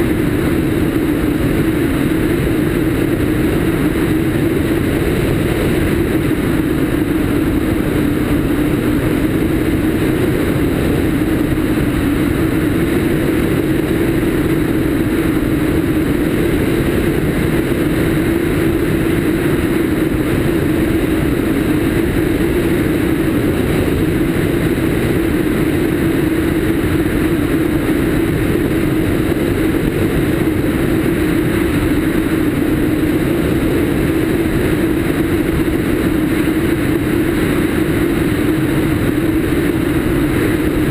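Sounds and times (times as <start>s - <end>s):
aircraft engine and propeller: 0.0s - 40.9s
wind rush on microphone: 0.0s - 40.9s.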